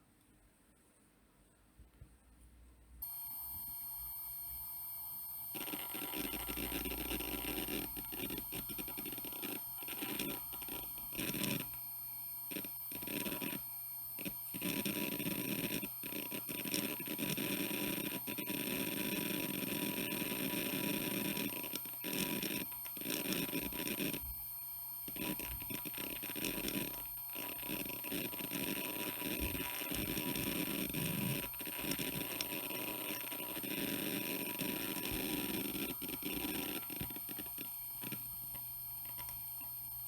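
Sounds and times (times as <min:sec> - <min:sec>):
hard drive seek noise: 0:03.0 - 0:40.0.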